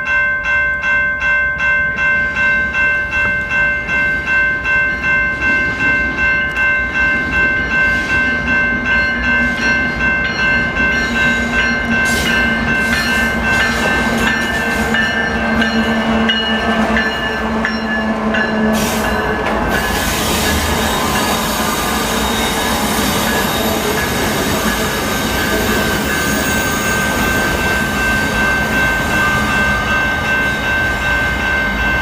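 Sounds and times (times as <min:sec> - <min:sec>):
locomotive bell ringing: 0:00.0 - 0:32.0
train engine and rail noise: 0:00.0 - 0:32.0.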